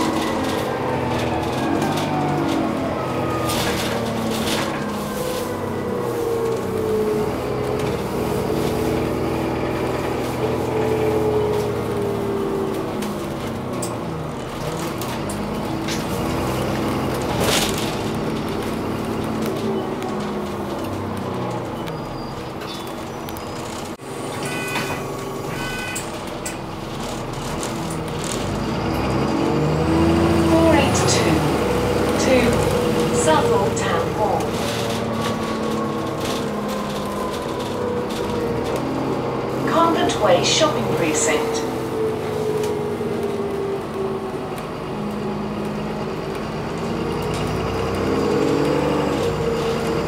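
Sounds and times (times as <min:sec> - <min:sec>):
bus engine and road noise: 0:00.0 - 0:50.0.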